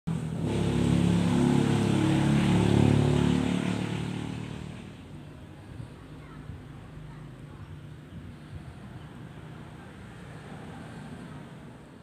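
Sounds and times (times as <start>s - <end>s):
vehicle engine humming: 0.1s - 12.0s.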